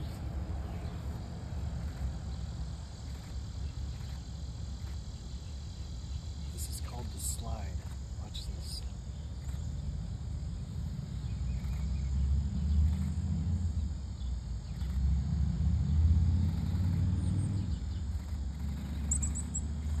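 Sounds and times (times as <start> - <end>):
faint insect drone: 0.0 - 20.0.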